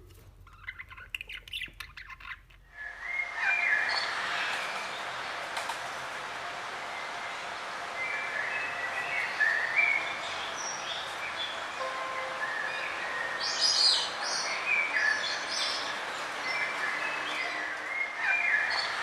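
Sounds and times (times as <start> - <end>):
small birds chirping and trilling: 0.4 - 5.1, 8.0 - 19.0
steady background hiss: 2.7 - 19.0.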